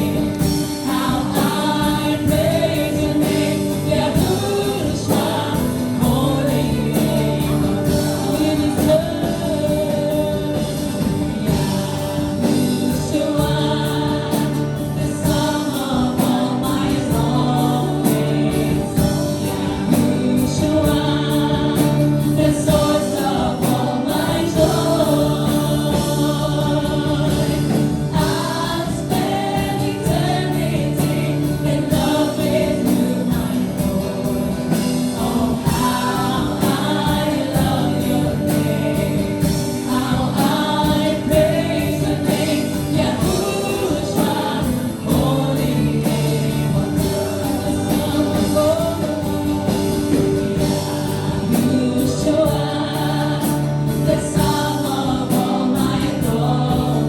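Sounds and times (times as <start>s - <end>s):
group singing a gospel song: 0.0s - 57.0s
steady low bass: 0.0s - 57.0s.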